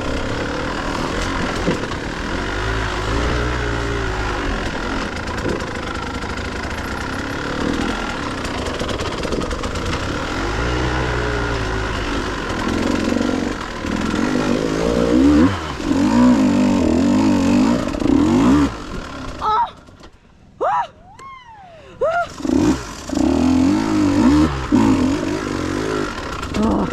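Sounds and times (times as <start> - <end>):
dirt bike engine revving: 0.0 - 20.0, 22.2 - 26.9.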